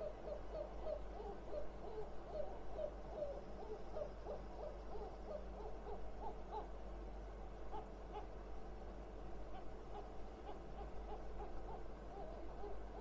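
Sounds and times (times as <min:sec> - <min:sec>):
bird hooting calls: 0:00.0 - 0:06.9, 0:07.6 - 0:08.4, 0:09.5 - 0:13.0.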